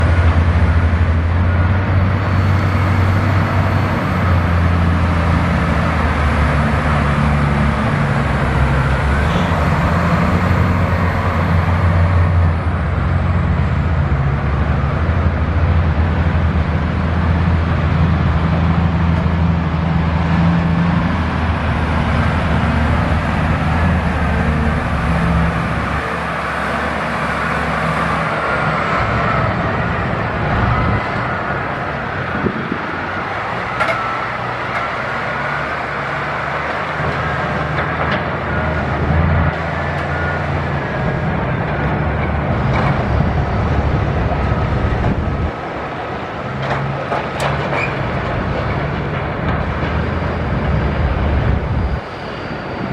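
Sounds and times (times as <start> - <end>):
dump truck diesel engine: 0.0 - 52.9.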